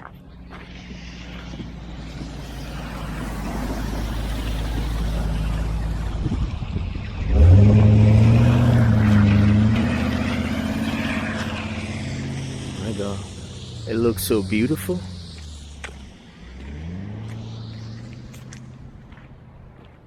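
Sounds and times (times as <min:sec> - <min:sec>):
road noise: 0:00.0 - 0:20.0
engine revving: 0:00.5 - 0:19.4.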